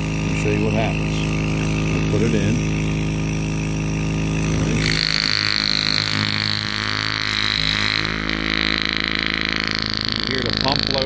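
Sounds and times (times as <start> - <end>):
air pump buzzing drone: 0.0 - 11.0.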